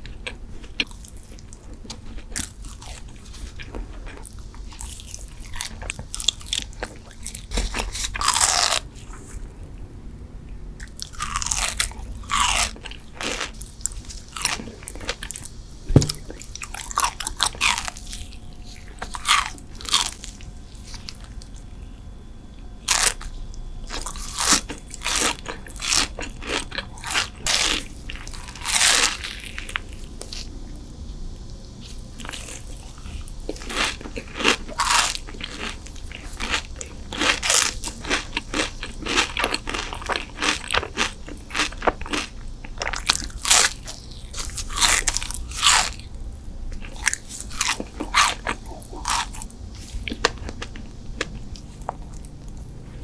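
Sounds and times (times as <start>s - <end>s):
person chewing crunchy food: 0.0s - 9.8s, 10.8s - 53.0s.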